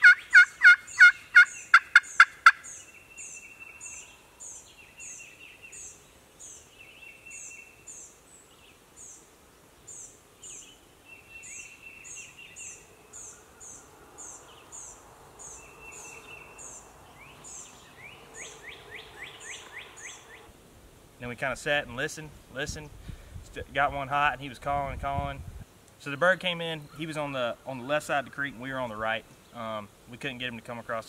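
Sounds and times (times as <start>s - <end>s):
songbirds chirping and trilling: 0.0s - 20.5s, 25.9s - 31.0s.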